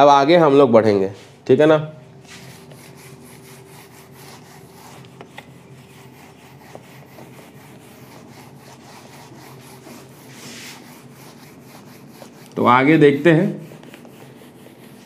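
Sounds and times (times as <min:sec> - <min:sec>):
eraser rubbing on whiteboard: 0:02.2 - 0:15.0.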